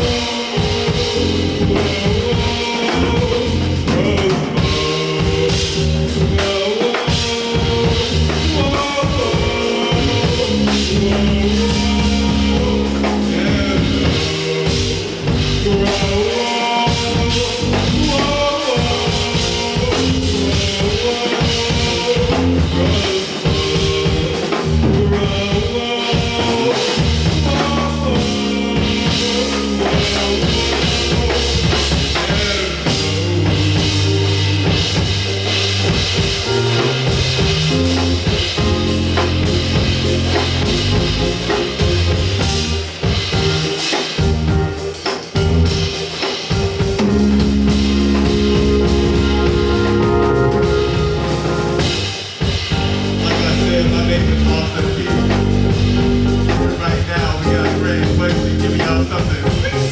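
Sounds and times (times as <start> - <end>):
low bass notes: 0.0 - 6.6, 7.6 - 59.9
drum kit beat: 0.0 - 59.9
pitched melodic lines: 7.6 - 59.9.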